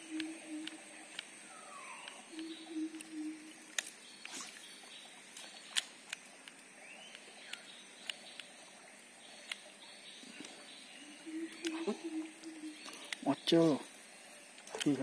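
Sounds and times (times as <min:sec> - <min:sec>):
birds calling: 0:00.0 - 0:06.0, 0:06.7 - 0:15.0
high insect whine: 0:00.0 - 0:15.0.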